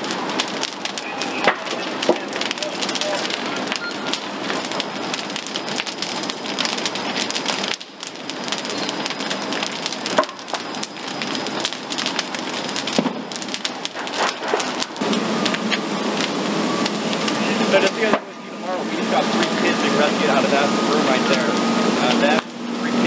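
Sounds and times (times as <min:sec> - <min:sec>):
building fire crackling: 0:00.0 - 0:23.0
burning wood popping: 0:00.0 - 0:23.0.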